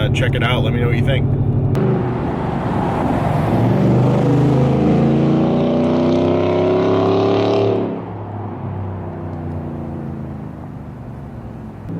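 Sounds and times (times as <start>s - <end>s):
truck engine accelerating: 0.0s - 11.9s.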